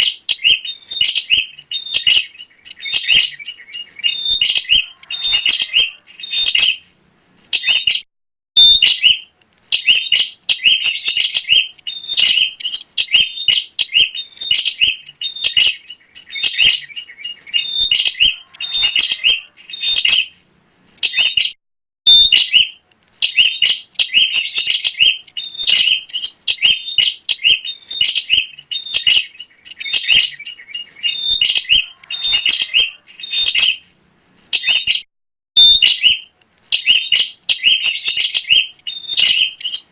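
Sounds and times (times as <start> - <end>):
bird singing high-pitched chirps: 0.0 - 8.0, 8.6 - 39.9.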